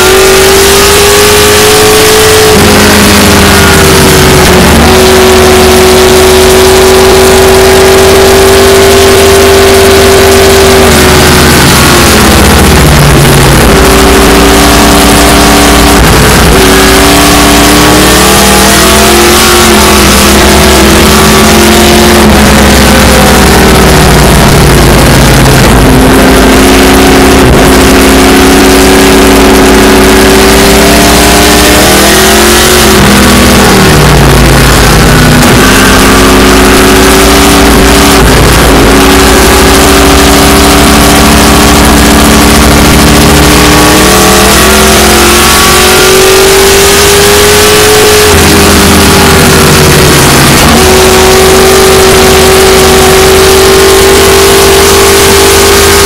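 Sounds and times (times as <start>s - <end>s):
race car engine revving: 0.0s - 56.0s
steady rushing noise: 0.0s - 56.0s.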